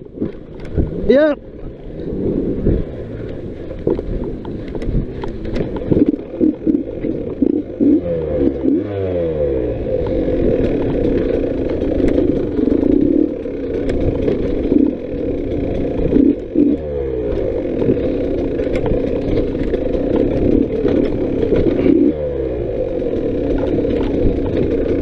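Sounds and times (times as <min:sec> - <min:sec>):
clicks and clatter over rough ground: 0:00.0 - 0:25.0
dirt bike engine revving: 0:00.6 - 0:25.0.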